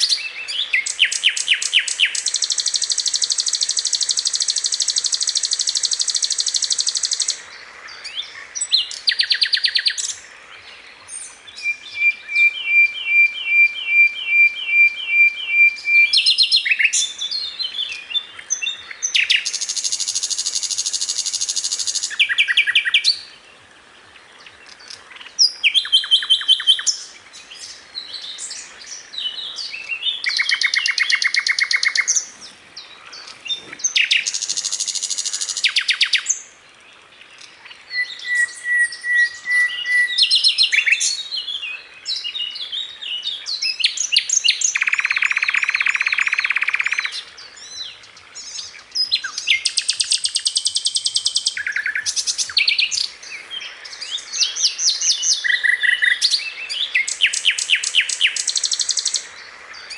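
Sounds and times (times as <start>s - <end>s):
bird song with buzzy trills: 0.0s - 23.6s, 24.2s - 59.9s.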